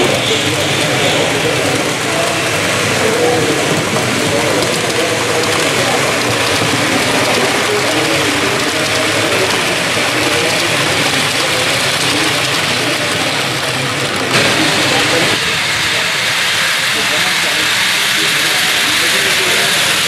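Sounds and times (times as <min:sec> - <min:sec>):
model trains whirring and rattling: 0:00.0 - 0:20.0
murmur of voices: 0:00.0 - 0:20.0.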